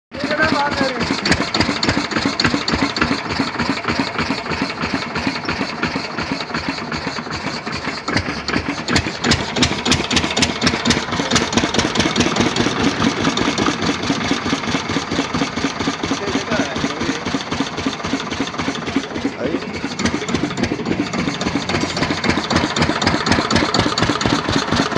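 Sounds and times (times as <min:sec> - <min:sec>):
diesel engine chugging: 0:00.1 - 0:24.9.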